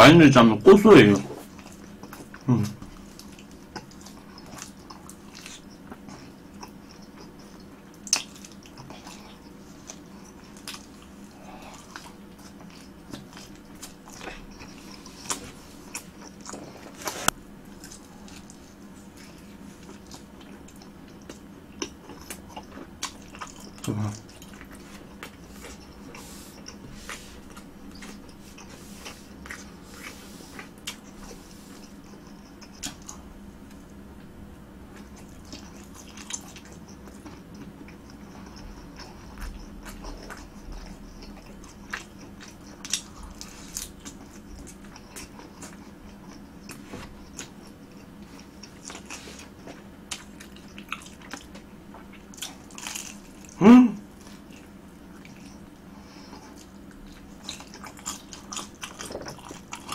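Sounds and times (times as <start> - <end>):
chewing and biting food: 1.2 - 34.0, 34.8 - 59.9.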